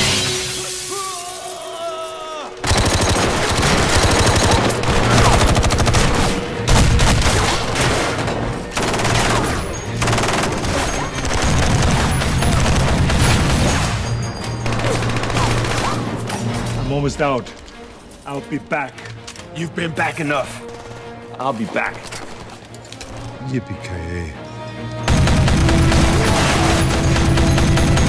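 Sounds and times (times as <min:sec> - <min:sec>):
action film score: 0:00.0 - 0:28.0.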